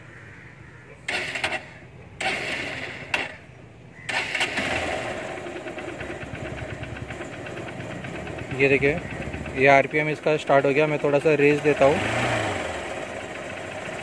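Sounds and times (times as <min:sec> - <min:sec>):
motorcycle engine starting and idling: 0:01.0 - 0:14.0.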